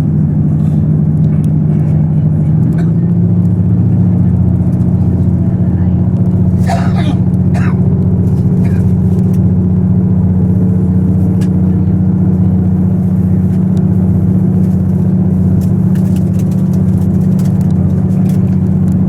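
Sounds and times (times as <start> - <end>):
train diesel engine drone: 0.0 - 19.0.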